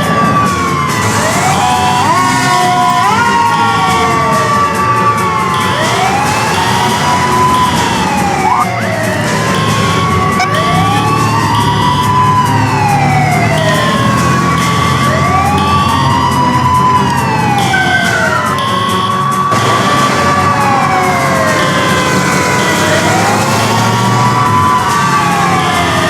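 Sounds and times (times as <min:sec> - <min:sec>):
fire truck sirens wailing: 0:00.0 - 0:26.0
short high siren tones: 0:01.0 - 0:26.0.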